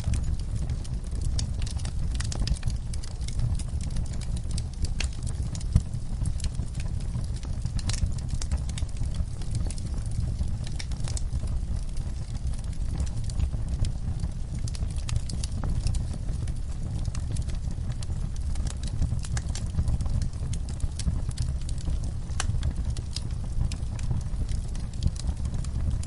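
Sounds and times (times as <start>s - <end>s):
fire pops and snaps: 0.0s - 26.0s
wood fire crackling: 0.0s - 26.0s.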